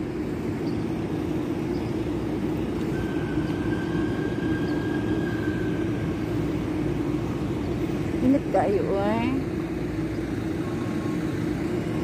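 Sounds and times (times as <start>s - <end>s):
bus engine idling: 0.0s - 12.0s
thin high whine: 0.0s - 12.0s.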